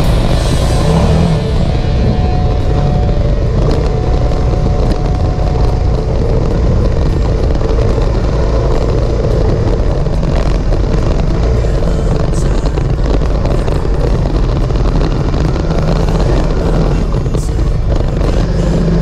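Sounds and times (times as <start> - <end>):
motorcycle engine rumble: 0.0 - 19.0
rushing air: 0.0 - 19.0
stones crackling under tyres: 0.0 - 19.0.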